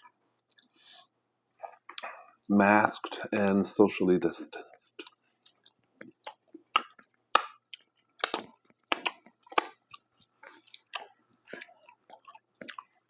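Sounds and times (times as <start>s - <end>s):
person chewing food: 0.0s - 2.5s, 4.9s - 13.0s.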